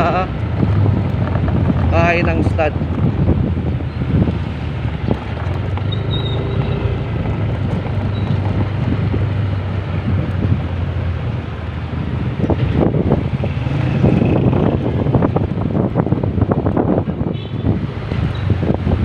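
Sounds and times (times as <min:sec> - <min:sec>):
wind buffeting microphone: 0:00.0 - 0:19.0
motorcycle engine running: 0:00.4 - 0:19.0.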